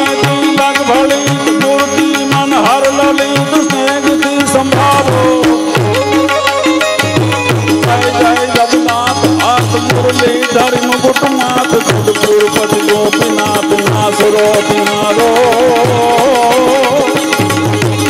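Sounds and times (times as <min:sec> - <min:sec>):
harmonium melody: 0:00.0 - 0:18.0
tabla brisk rhythm: 0:00.0 - 0:18.0.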